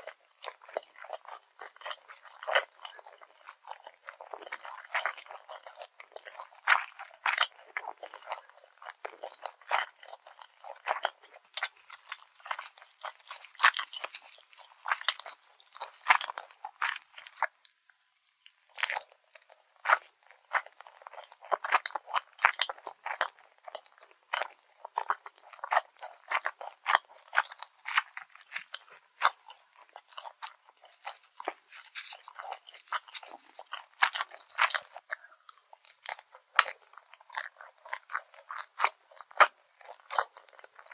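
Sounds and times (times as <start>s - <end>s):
chewing and crunching: 0.0s - 40.9s.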